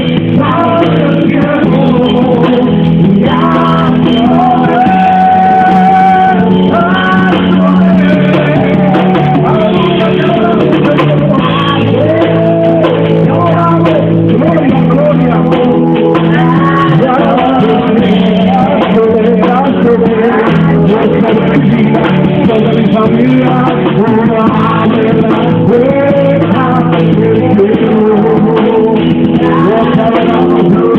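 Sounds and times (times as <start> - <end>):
instrumental accompaniment with bass: 0.0 - 30.9
person singing: 0.0 - 30.9.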